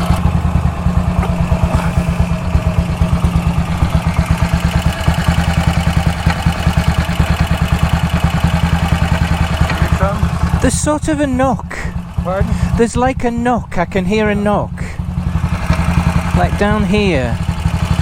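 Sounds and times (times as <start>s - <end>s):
engine knock: 0.0s - 18.0s
motorcycle engine idling: 0.0s - 18.0s.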